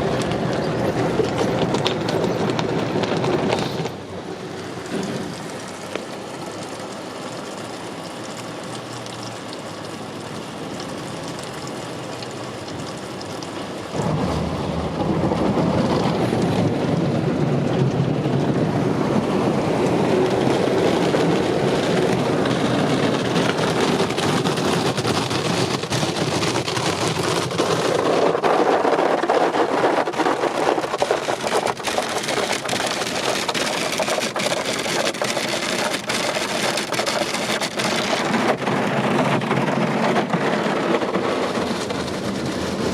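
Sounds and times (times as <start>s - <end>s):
water spraying onto a car: 0.0s - 42.9s.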